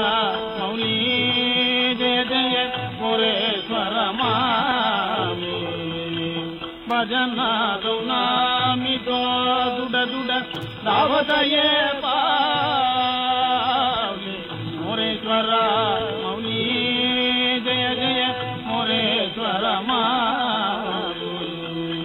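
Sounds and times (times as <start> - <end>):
held accompanying notes: 0.0 - 22.0
man singing devotional song: 0.0 - 22.0.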